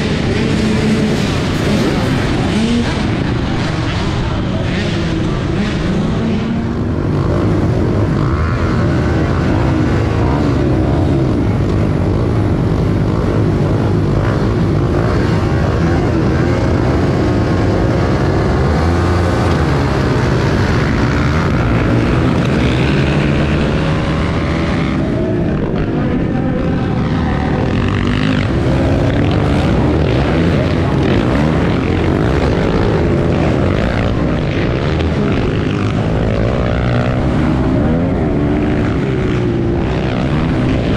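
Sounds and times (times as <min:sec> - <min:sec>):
dirt bike engine revving: 0:00.0 - 0:40.9
other bikes running: 0:00.0 - 0:40.9.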